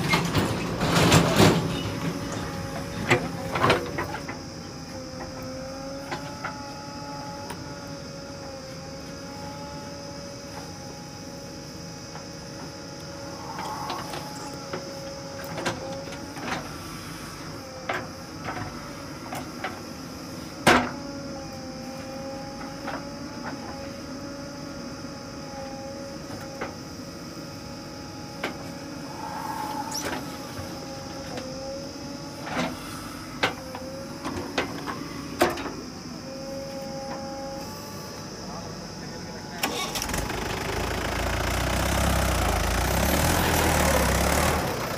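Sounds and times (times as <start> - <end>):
engine and hydraulic whine: 0.0 - 44.9.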